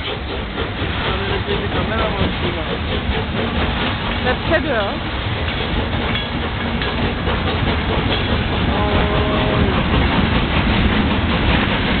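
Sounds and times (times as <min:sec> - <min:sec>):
steam train rumbling past: 0:00.0 - 0:12.0
wheel clatter over rail joints: 0:00.0 - 0:12.0.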